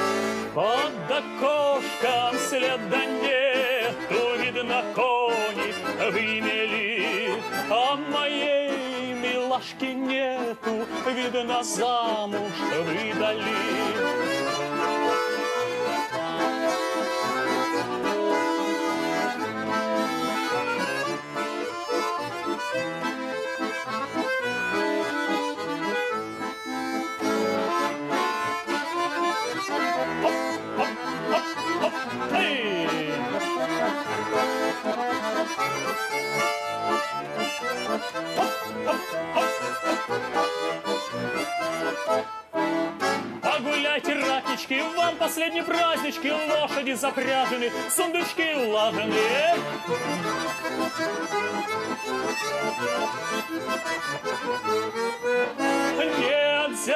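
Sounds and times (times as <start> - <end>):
button accordion playing lively tune: 0.0 - 56.9.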